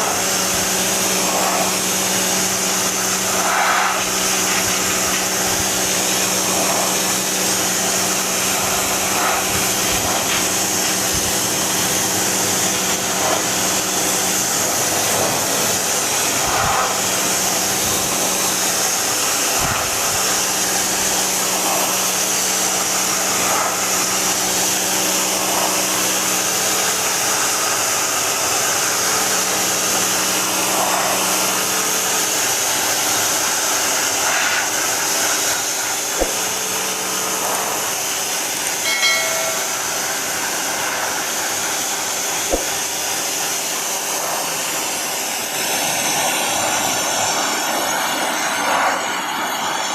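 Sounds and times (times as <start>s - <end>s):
electric motor hissing: 0.0s - 49.9s.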